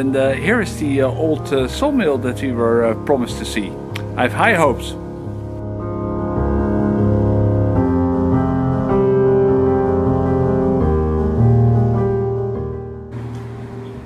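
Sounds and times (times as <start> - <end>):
slow held keyboard chords: 0.0 - 14.0.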